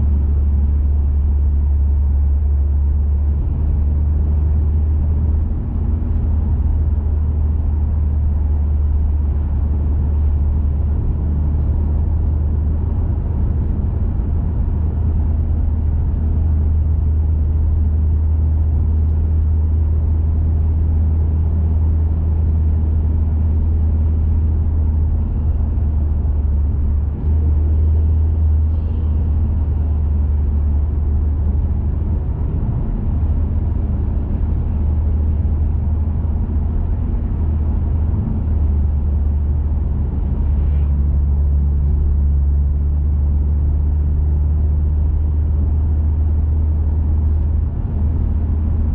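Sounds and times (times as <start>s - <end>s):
car engine deep drone: 0.0s - 48.9s
road noise: 0.0s - 48.9s.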